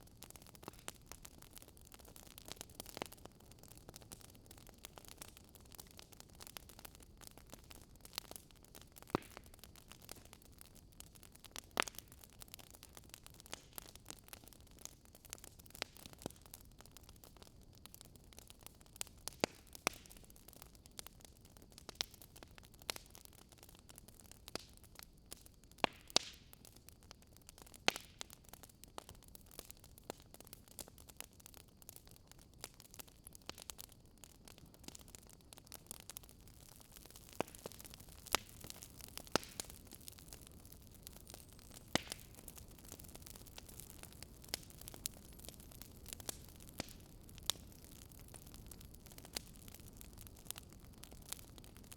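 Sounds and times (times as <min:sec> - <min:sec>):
faint steady hiss: 0:00.0 - 0:51.9
fire crackling and popping: 0:00.0 - 0:51.9.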